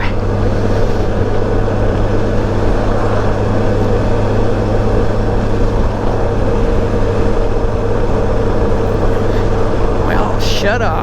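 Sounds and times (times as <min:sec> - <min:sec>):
motorcycle engine droning: 0:00.0 - 0:11.0
wind and road noise: 0:00.0 - 0:11.0.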